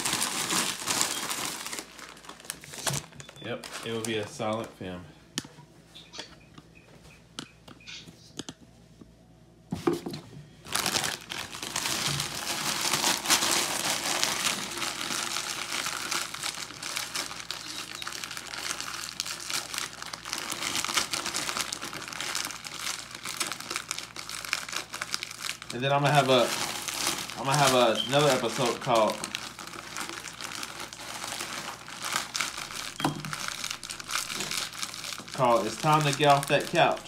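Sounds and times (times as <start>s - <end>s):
plastic bags crinkling: 0.0s - 4.8s, 10.6s - 37.0s.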